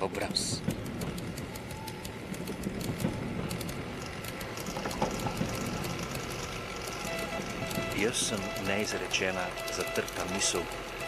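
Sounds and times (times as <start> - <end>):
metallic clicks and rattles: 0.0 - 11.0
train rumble: 0.0 - 11.0.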